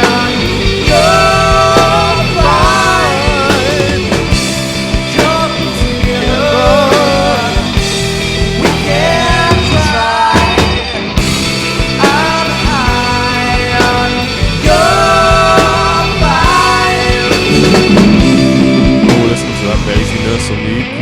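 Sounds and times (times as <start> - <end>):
lead singer singing: 0.0 - 11.1, 11.8 - 21.0
rock band playing live: 0.0 - 21.0.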